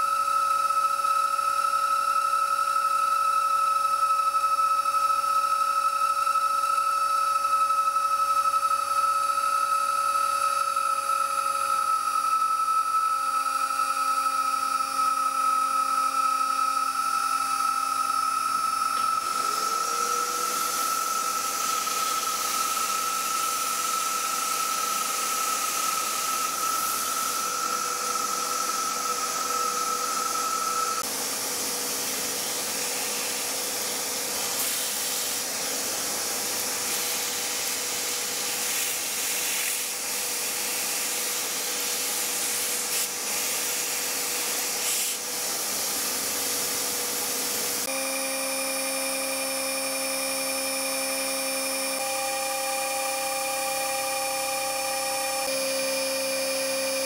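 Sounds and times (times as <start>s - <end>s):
milling machine whining: 0.0s - 57.0s
vacuum cleaner running: 0.0s - 57.0s.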